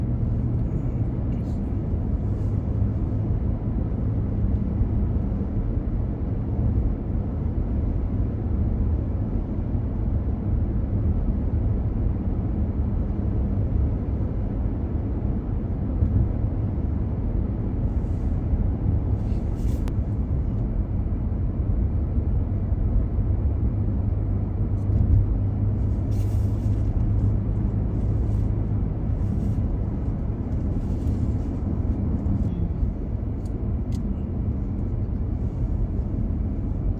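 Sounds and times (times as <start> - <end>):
car engine and tyre rumble: 0.0 - 36.9.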